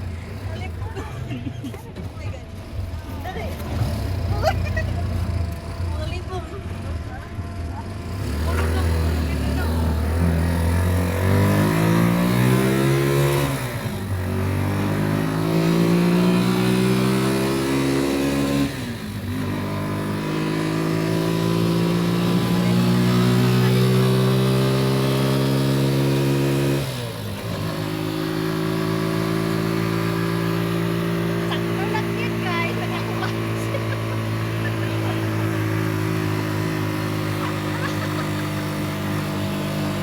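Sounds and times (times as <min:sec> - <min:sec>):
engine accelerating through gears: 0:02.2 - 0:40.0.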